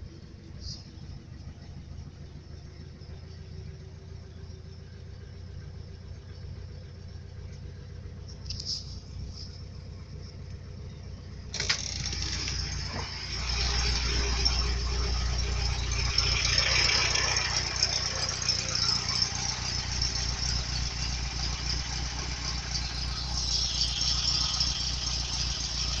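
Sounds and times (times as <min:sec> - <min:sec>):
car engine idling with rattle: 0:00.0 - 0:26.0.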